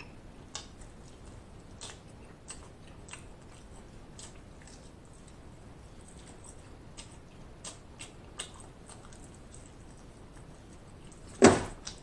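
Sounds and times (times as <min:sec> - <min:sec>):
chewing chicken wing: 0:00.4 - 0:12.0.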